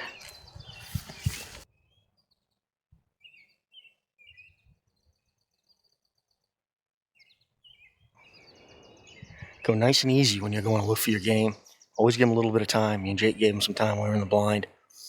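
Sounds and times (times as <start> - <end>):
songbird chirps and trill: 0.0 - 14.9.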